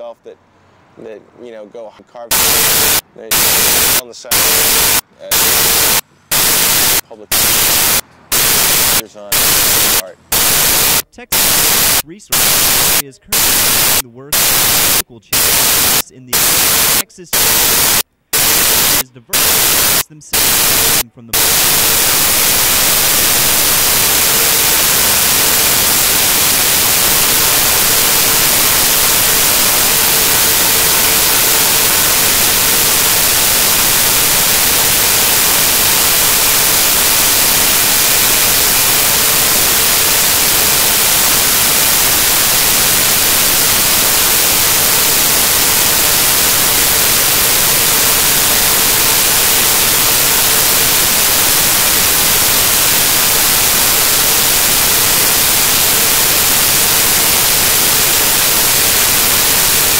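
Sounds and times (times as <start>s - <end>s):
loud static hiss: 2.3s - 59.9s.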